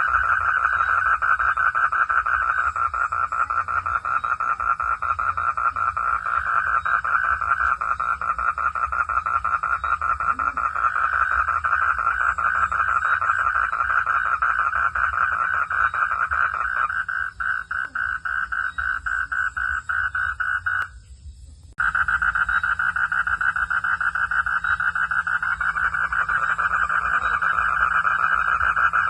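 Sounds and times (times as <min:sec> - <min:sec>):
chorus of frogs calling: 0:00.0 - 0:21.0, 0:21.8 - 0:29.0.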